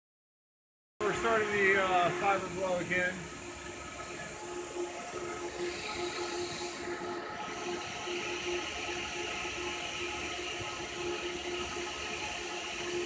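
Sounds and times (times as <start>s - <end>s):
air-blown fiber hissing: 1.0s - 13.0s.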